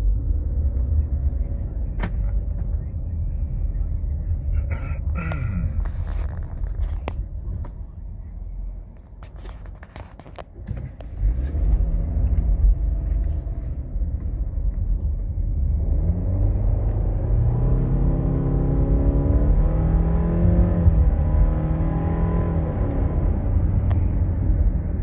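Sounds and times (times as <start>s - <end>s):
car engine in cabin: 0.0s - 25.0s
low road rumble: 0.0s - 25.0s.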